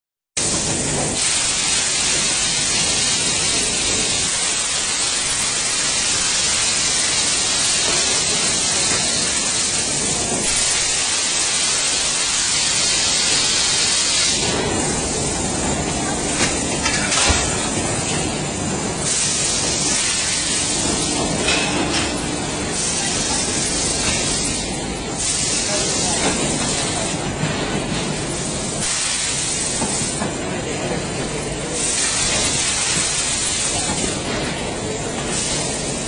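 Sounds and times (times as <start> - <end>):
steady hiss: 0.4 - 27.4, 28.1 - 31.0.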